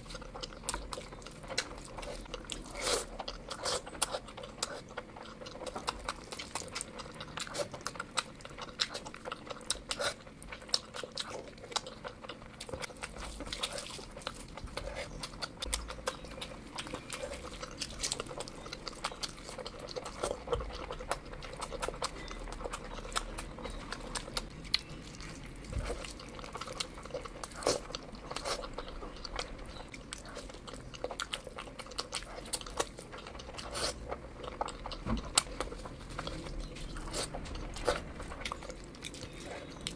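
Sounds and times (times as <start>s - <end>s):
chewing with wet mouth clicks: 0.0s - 39.9s.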